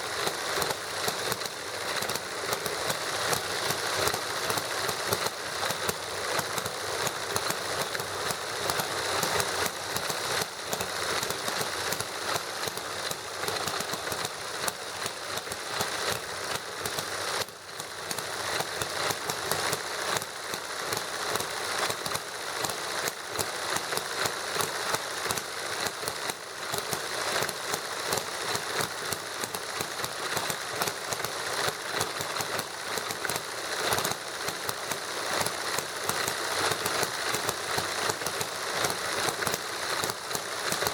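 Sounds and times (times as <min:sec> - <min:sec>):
small model engines clattering: 0:00.0 - 0:40.9.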